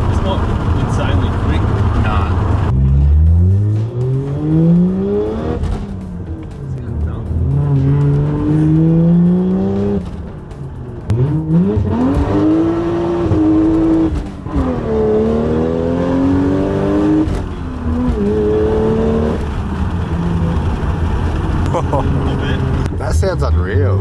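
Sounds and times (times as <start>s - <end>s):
car engine accelerating through gears: 0.0s - 24.0s.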